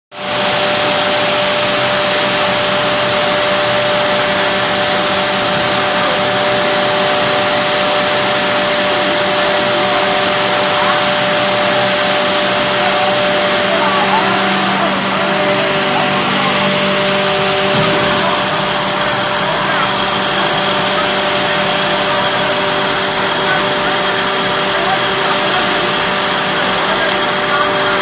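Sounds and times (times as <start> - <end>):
machine whine: 0.1 - 28.0
furnace air blast rushing: 0.4 - 23.4.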